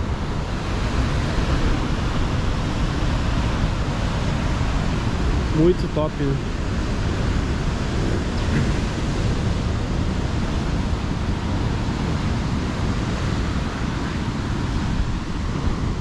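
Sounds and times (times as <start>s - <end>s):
heavy surf rushing: 0.0s - 16.0s
wind rumbling on microphone: 0.0s - 16.0s.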